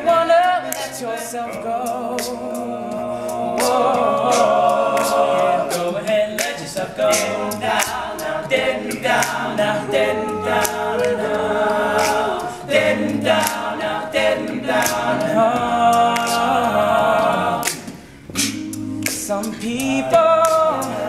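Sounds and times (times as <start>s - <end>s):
male voices singing in harmony: 0.0s - 21.0s
sharp rhythmic clicks: 0.4s - 21.0s.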